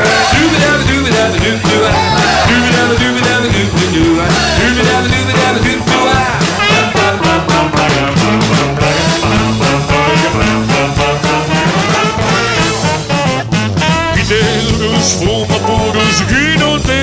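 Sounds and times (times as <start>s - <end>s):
band playing upbeat song: 0.0s - 17.0s.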